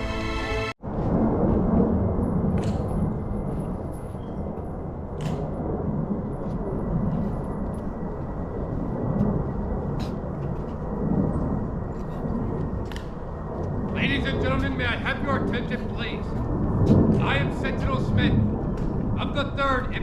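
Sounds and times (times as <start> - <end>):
low outdoor rumble: 0.8 - 20.0.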